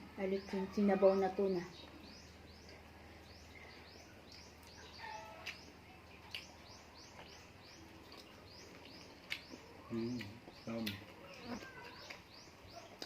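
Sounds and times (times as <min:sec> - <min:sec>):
small bird chirping: 0:00.2 - 0:13.0.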